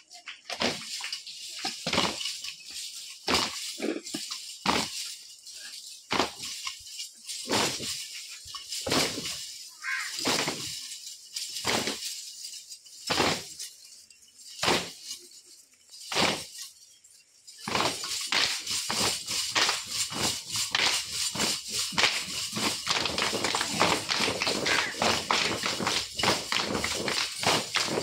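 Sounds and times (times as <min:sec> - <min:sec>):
jingling instruments struck together: 0:00.0 - 0:28.0.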